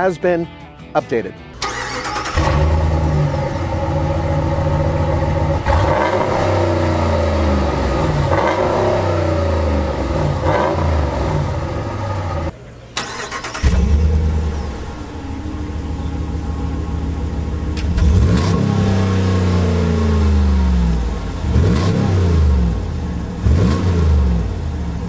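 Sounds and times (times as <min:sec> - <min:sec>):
truck engine idling and revving: 0:01.6 - 0:25.0.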